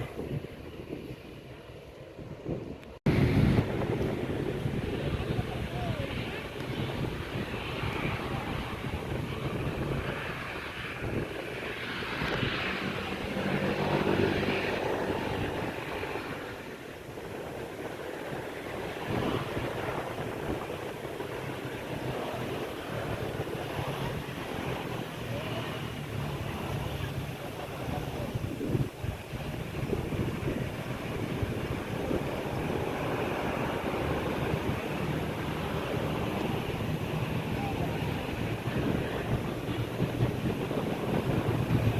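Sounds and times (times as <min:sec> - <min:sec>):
passing airliner engine noise: 0:00.0 - 0:41.9.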